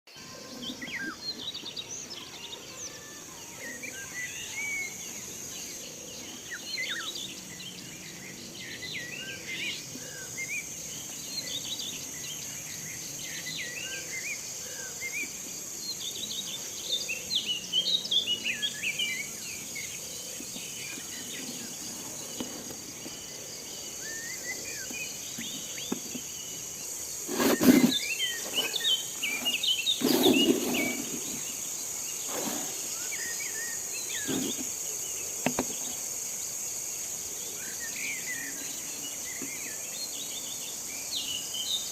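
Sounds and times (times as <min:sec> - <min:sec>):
birds chirping and singing: 0:00.1 - 0:36.0
steady high hiss: 0:00.2 - 0:41.9.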